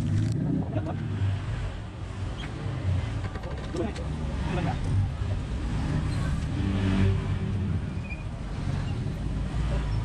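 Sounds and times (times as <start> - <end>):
motor vehicle rumbling: 0.0 - 10.0.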